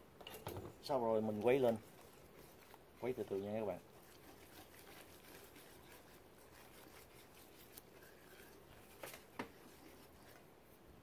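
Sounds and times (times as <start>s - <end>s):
whisk scraping bowl: 1.0s - 10.5s.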